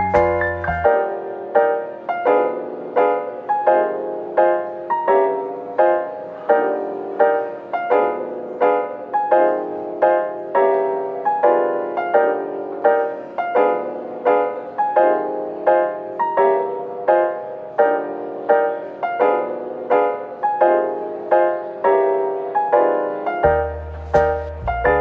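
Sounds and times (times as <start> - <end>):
piano single notes: 0.0 - 25.0.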